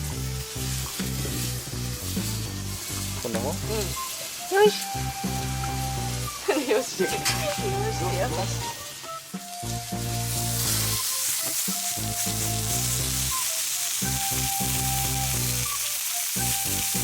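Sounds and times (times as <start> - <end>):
background music: 0.0 - 17.0
food sizzling in a pan: 0.0 - 17.0.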